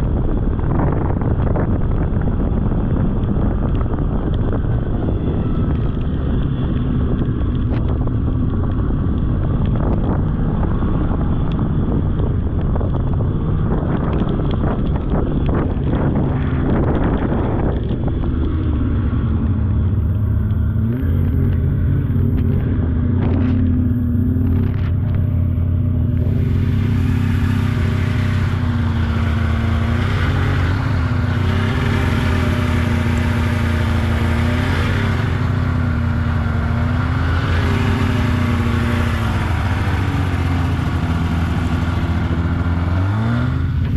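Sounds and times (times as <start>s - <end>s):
snowmobile engine running: 0.0s - 43.9s
wind noise on microphone: 0.0s - 43.9s.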